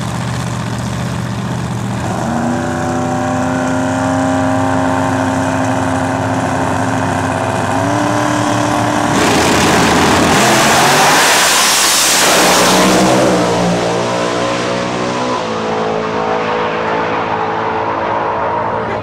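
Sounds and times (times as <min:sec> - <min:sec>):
drag cars at full throttle: 0:00.0 - 0:19.0.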